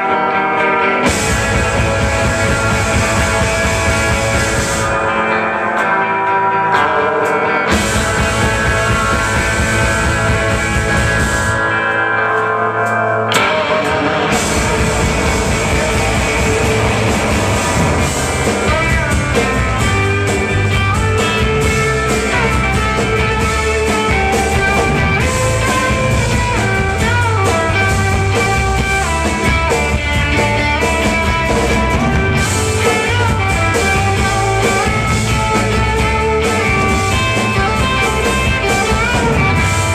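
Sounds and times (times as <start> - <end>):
lead guitar bending pitch: 0.0 - 39.9
rock band playing: 0.0 - 39.9.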